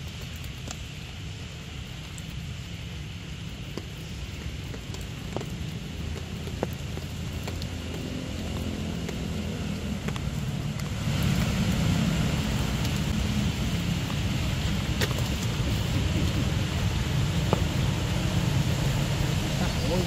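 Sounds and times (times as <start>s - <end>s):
rain drop ticks: 0.0s - 20.0s
rain falling: 0.0s - 20.0s
steady low rumble: 0.0s - 20.0s.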